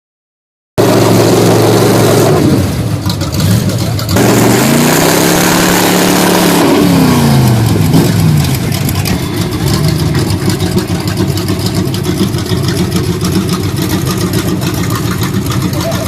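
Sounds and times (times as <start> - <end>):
truck engine revving: 0.8 - 16.0.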